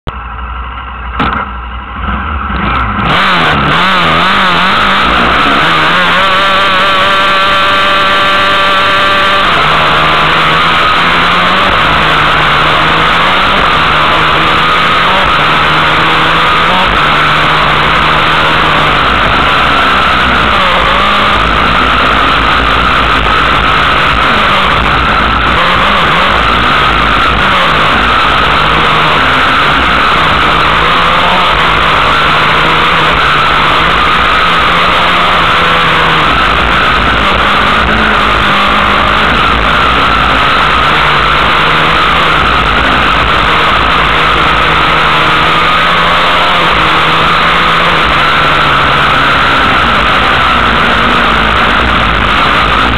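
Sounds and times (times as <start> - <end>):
buggy engine revving loudly: 1.1 - 52.9.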